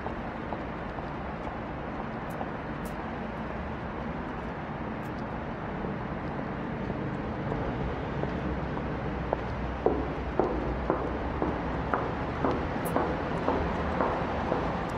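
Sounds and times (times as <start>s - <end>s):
distant road traffic rumble: 0.0s - 14.9s.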